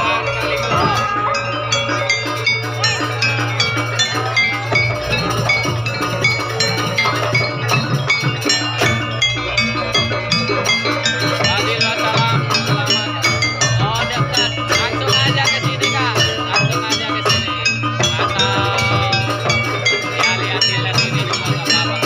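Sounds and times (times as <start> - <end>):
drums: 0.0 - 22.0
metallic tuned percussion: 0.0 - 22.0.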